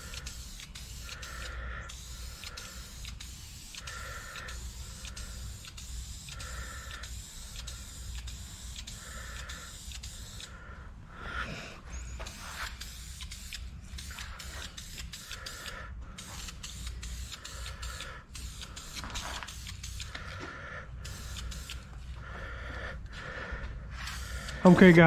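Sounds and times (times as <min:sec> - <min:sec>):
hissing paint spray: 0:00.0 - 0:10.5, 0:12.2 - 0:20.3, 0:21.0 - 0:22.1, 0:23.9 - 0:25.0
steady low hum: 0:00.0 - 0:25.0.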